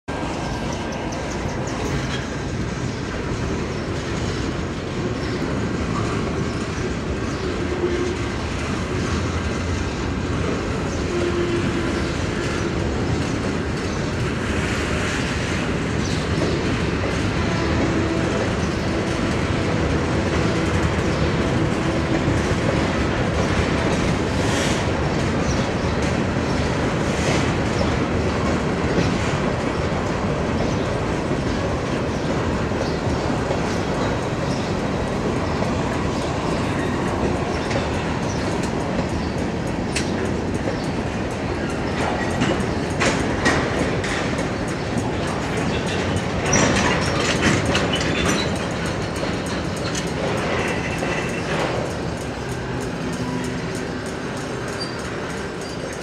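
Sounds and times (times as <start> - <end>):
steel wheels rumbling on rail: 0.1 - 56.0
wheels clacking over rail joints: 0.1 - 56.0.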